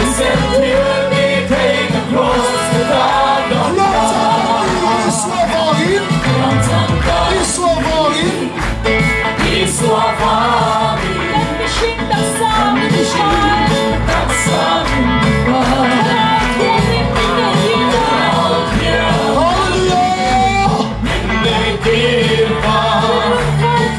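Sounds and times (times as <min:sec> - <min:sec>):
drum beat: 0:00.0 - 0:23.9
worship music with singing: 0:00.0 - 0:23.9.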